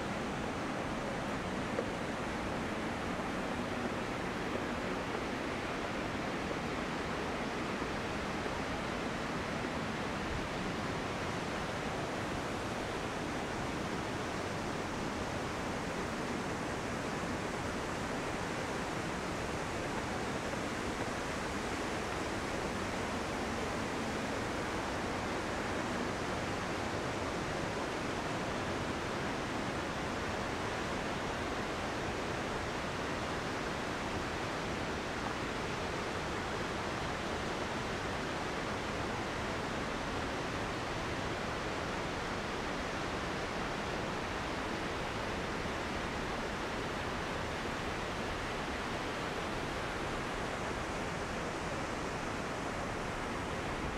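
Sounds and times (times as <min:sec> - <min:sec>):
waterfall roaring: 0:00.0 - 0:53.9.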